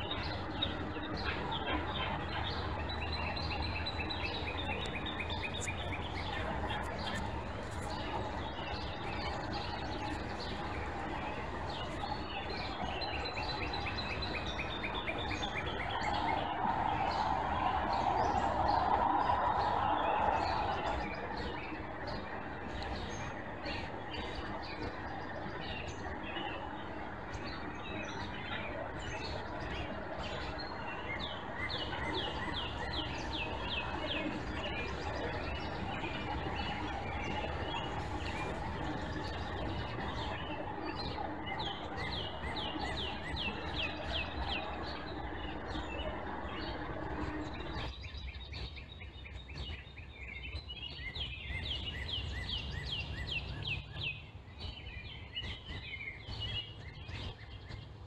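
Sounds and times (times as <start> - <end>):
low rushing noise: 0.0 - 48.0
birds singing: 0.0 - 58.0
steady background hum: 0.0 - 58.0.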